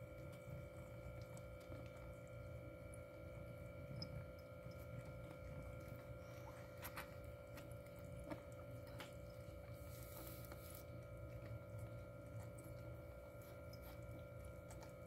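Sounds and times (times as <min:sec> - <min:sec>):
cat licking kittens: 0:00.0 - 0:15.0
low hum: 0:00.0 - 0:15.0.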